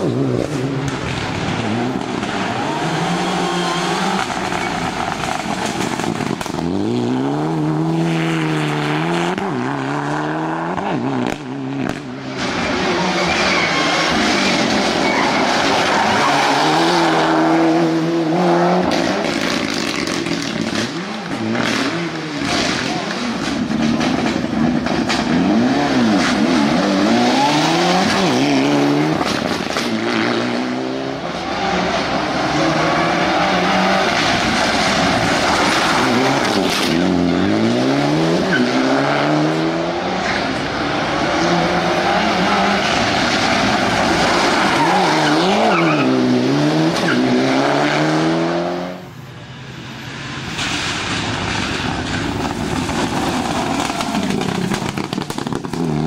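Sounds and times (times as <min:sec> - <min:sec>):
rally car engine revving: 0:00.0 - 0:49.1, 0:51.5 - 0:56.0.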